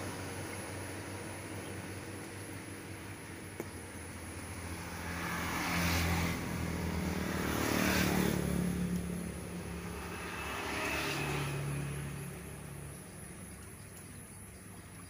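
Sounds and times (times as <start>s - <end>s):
low machine hum: 0.0s - 5.6s, 8.3s - 15.0s.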